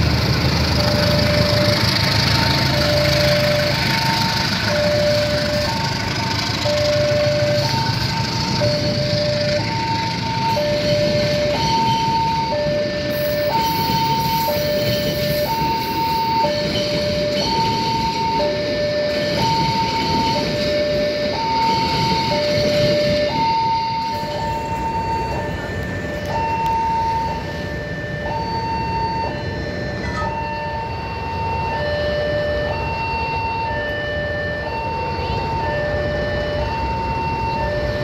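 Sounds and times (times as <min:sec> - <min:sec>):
freight train wagons rumbling: 0:00.0 - 0:38.0
two-tone crossing alarm: 0:00.0 - 0:38.0.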